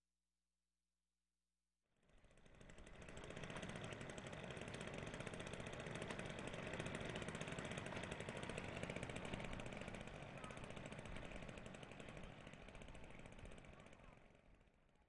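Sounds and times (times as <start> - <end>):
engine running with fast pulse: 2.0 - 15.0.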